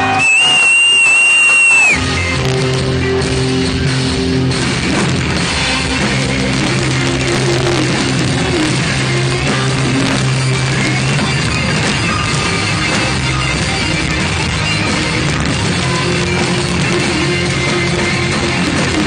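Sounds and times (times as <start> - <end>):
drum kit: 0.0 - 19.0
electric guitars playing chords: 0.0 - 19.0.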